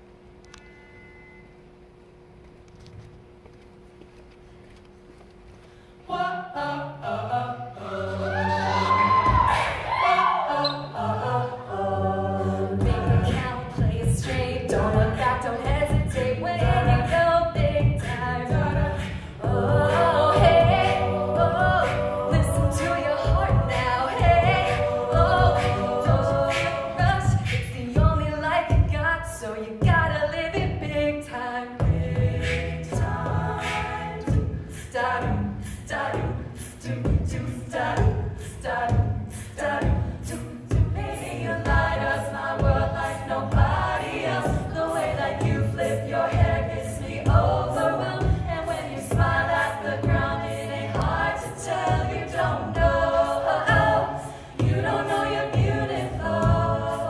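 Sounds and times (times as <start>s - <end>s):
a cappella group singing: 6.1s - 57.0s
vocal percussion beat: 8.2s - 10.4s, 12.6s - 57.0s.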